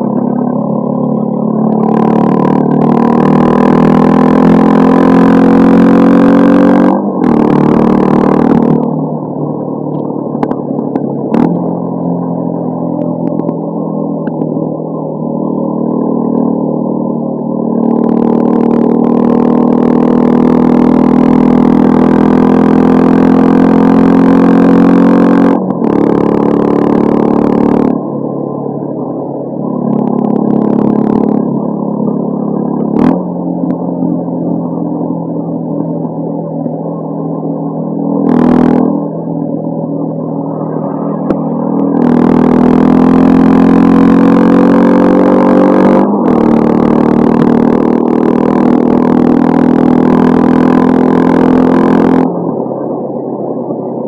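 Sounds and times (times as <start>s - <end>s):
motorcycle engine revving: 0.0s - 52.6s.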